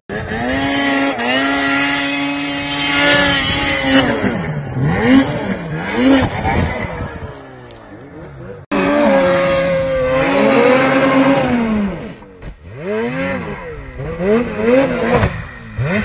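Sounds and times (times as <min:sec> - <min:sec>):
snowmobile engine revving: 0:00.1 - 0:16.0.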